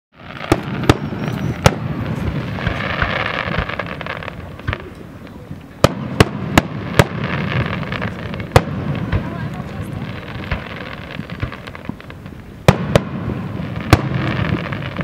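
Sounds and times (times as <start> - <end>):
firework bangs: 0.2 - 15.0
firework crackling: 0.2 - 15.0.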